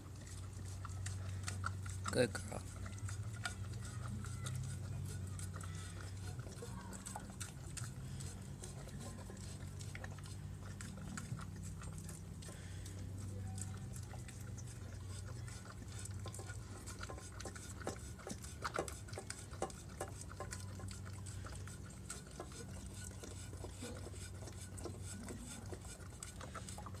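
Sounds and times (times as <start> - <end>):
dog eating from dish: 0.0 - 27.0.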